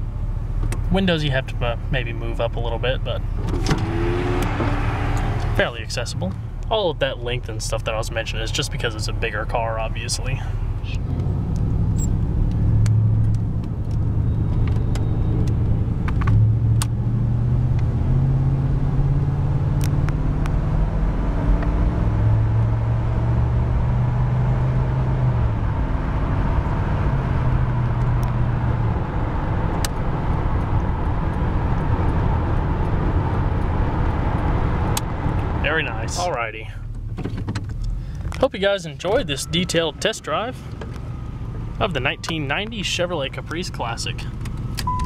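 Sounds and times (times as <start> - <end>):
road noise: 0.0 - 45.0
car engine accelerating: 3.2 - 45.0.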